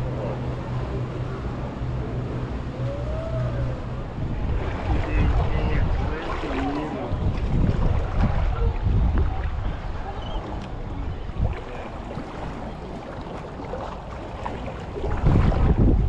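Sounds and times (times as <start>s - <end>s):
seawater sloshing: 0.0s - 16.0s
wind rumbling on microphone: 0.0s - 16.0s.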